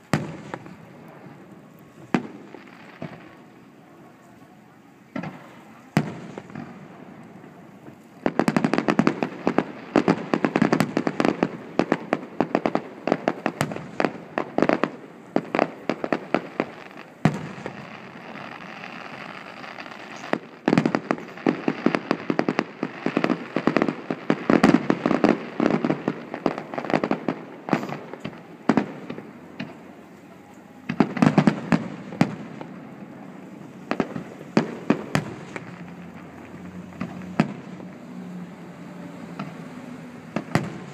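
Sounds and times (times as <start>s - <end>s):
fireworks bangs and crackling bursts: 0.0s - 40.9s.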